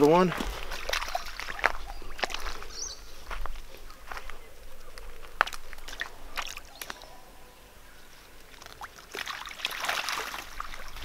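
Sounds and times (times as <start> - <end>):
feet wading through water: 0.0 - 7.4, 8.2 - 11.0.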